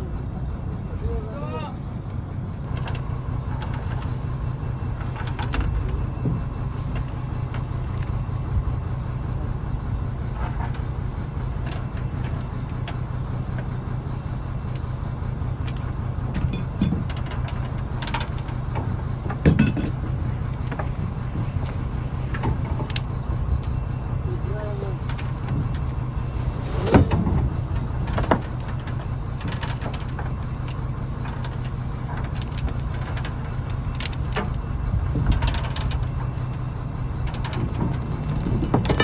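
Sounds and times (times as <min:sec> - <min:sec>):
boat diesel engine humming: 0:00.0 - 0:39.0
knocks and clanks: 0:02.6 - 0:09.6, 0:10.2 - 0:13.8, 0:15.7 - 0:23.8, 0:25.0 - 0:39.0.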